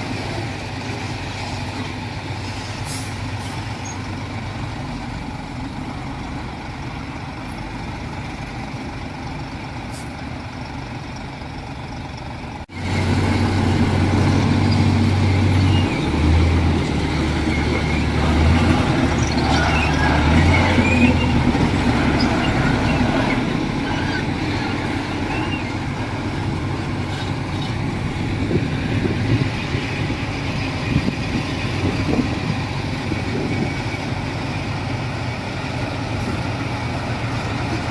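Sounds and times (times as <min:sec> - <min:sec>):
diesel earthmoving machinery running: 0:00.0 - 0:37.9.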